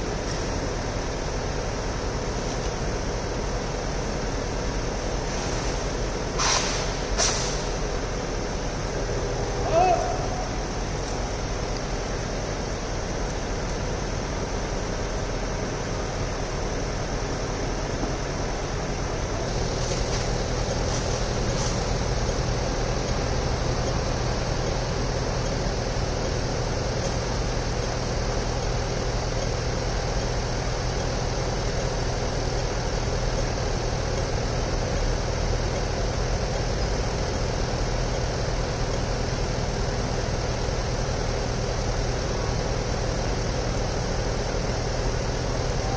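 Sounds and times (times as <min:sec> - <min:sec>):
city street noise: 0:00.0 - 0:45.9
low steady hum: 0:00.0 - 0:45.9.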